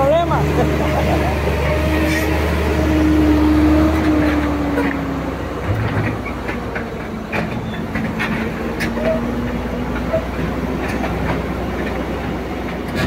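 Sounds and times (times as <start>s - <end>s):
diesel engine humming and whining: 0.0s - 13.0s.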